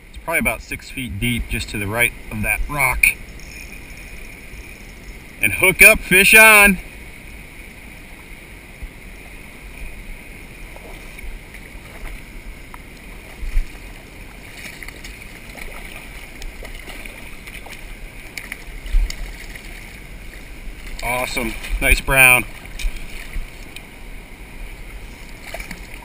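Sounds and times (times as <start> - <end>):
fast-flowing creek rushing: 5.2 - 26.0.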